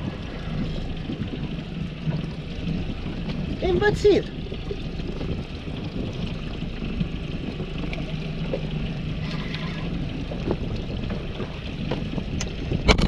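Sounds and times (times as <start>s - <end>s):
water lapping around boat: 0.0s - 13.0s
wind on microphone: 0.0s - 13.0s.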